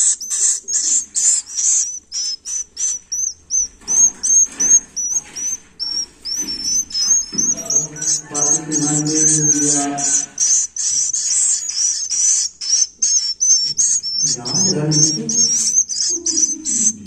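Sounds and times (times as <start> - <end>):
bird chicks chirping: 0.0 - 17.0.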